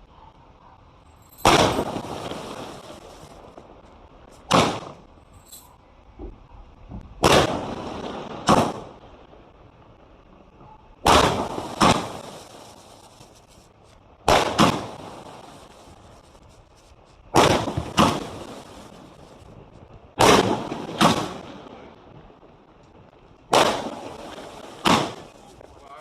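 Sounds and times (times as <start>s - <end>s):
firework bangs: 1.4s - 5.2s, 7.0s - 9.6s, 11.0s - 26.0s.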